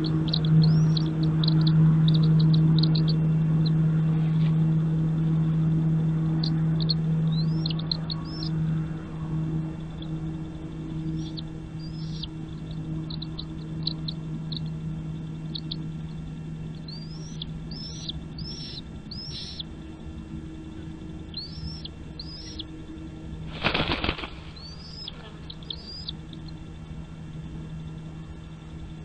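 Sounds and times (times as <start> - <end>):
bird chirping: 0.0 - 4.6, 5.8 - 26.7
wings fluttering: 0.0 - 26.7
steady low hum: 0.0 - 29.0.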